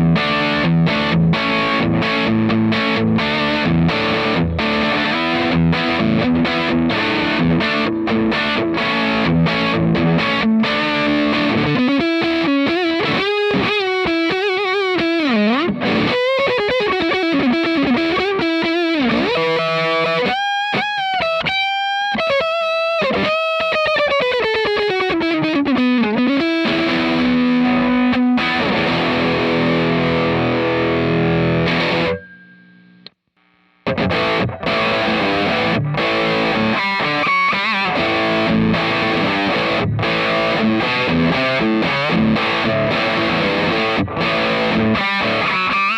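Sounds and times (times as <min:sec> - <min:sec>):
overdriven electric guitar: 0:00.0 - 0:32.8, 0:33.5 - 0:45.9.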